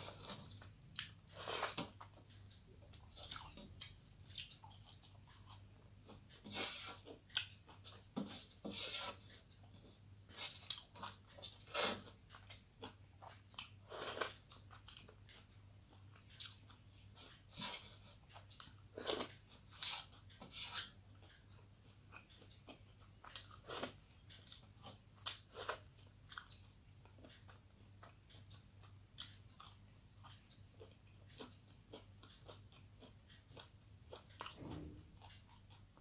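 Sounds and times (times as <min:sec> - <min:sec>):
chewing and crunching food: 0:00.0 - 0:36.0.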